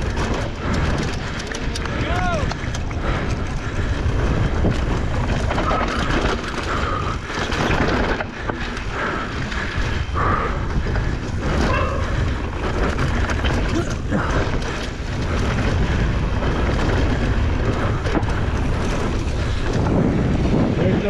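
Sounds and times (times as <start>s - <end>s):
bike rattling over bumps: 0.0s - 21.0s
tyres rumbling over dirt: 0.0s - 21.0s
wind buffeting microphone: 0.0s - 21.0s.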